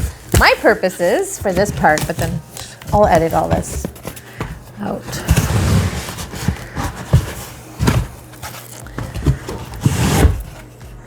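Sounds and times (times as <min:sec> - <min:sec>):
cardboard boxes knocking and rubbing: 0:00.0 - 0:11.0.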